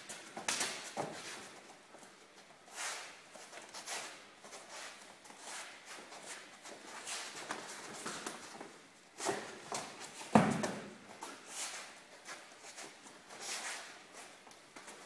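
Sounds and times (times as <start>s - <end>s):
sleeves rustling and swishing: 0.0s - 10.4s, 11.0s - 15.0s
feet shuffling on foam mats: 0.0s - 15.0s.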